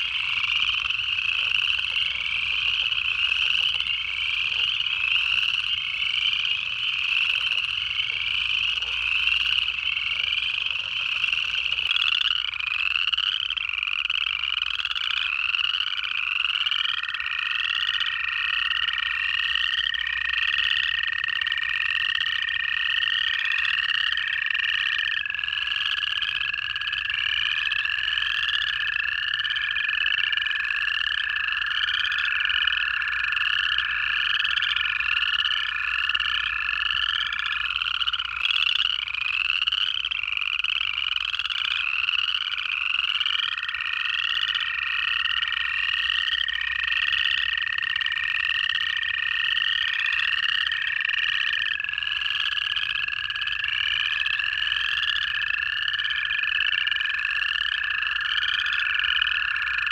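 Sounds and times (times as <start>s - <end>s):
chorus frogs rising trills: 0.0s - 59.9s
toads long steady trills: 0.0s - 59.9s.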